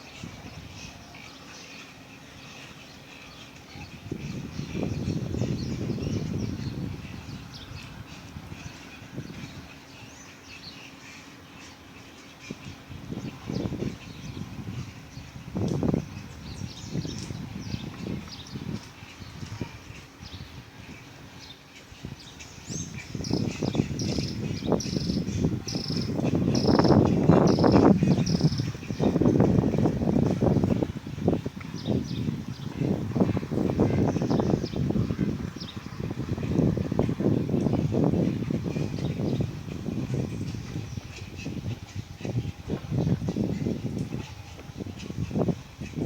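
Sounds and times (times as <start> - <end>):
wild birds chirping: 0.1 - 43.5.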